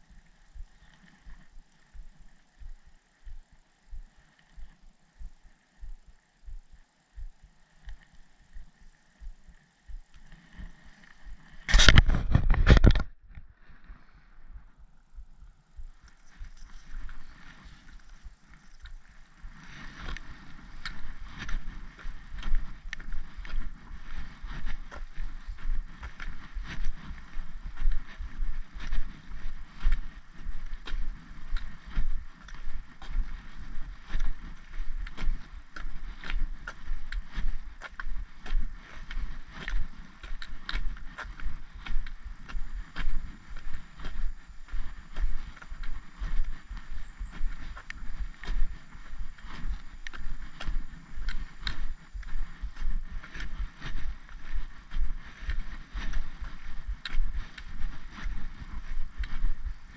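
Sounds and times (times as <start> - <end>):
footsteps on tarmac: 0.0 - 59.9
low rumble: 0.0 - 59.9.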